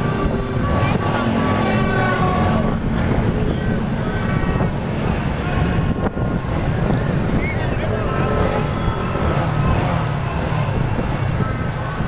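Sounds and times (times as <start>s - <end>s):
horns tooting: 0.0s - 12.0s
motorbike engines running: 0.0s - 12.0s
wind buffeting microphone: 0.0s - 12.0s.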